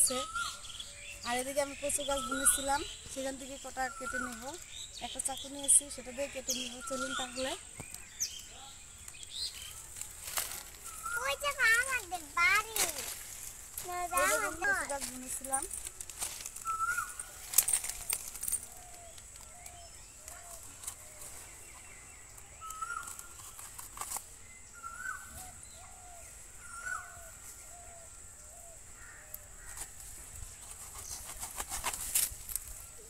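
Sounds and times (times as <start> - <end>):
birds calling: 0.0 - 33.0.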